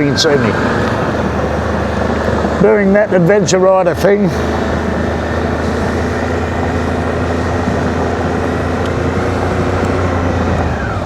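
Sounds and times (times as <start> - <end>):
motorcycle engine running: 0.0 - 11.0
wind and tyre noise: 0.0 - 11.0.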